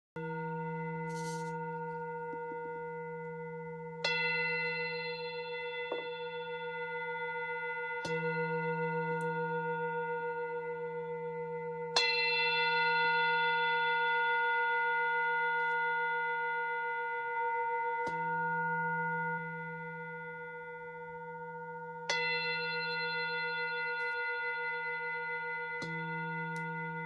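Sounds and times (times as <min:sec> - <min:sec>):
sound bowl strikes: 0:00.2 - 0:27.0
sound bowls ringing: 0:00.2 - 0:27.0.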